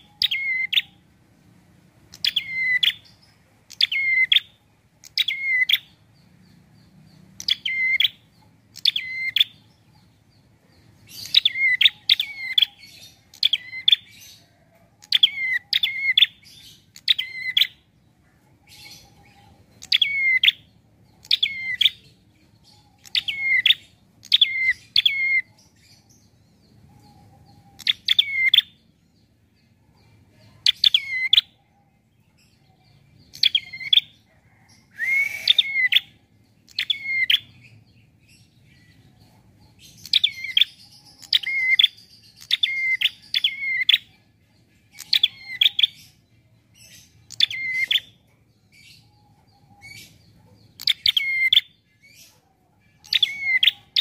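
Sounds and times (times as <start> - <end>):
small bird chirping: 0.0 - 54.0.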